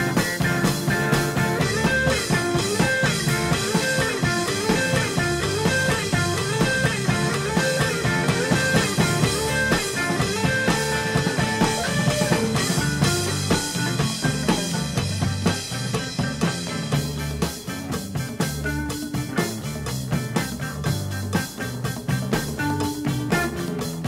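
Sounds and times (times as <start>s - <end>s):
rock music: 0.0s - 24.0s.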